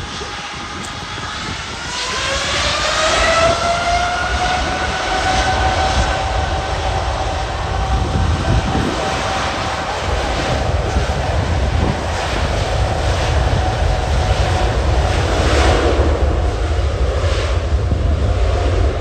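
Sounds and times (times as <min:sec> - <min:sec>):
jet engines spooling up: 0:00.0 - 0:18.6.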